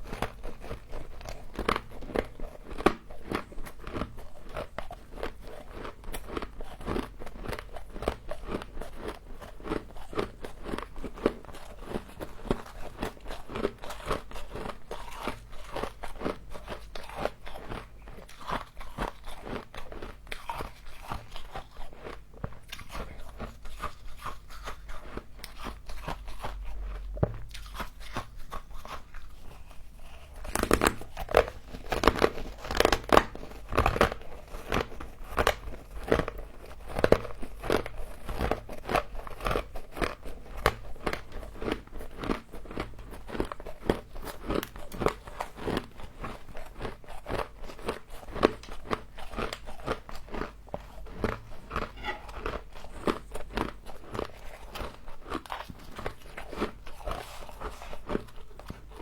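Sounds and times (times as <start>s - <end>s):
close chewing crunching: 0.0s - 59.0s.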